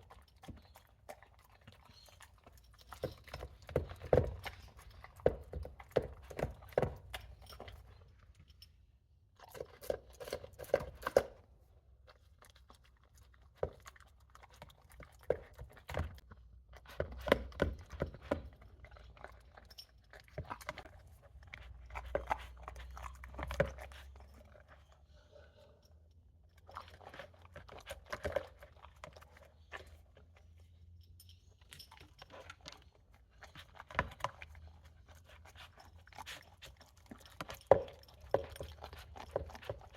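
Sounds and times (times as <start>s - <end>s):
dog chewing food crunching: 0.0s - 8.4s, 9.3s - 25.5s, 26.6s - 30.8s, 31.4s - 39.9s.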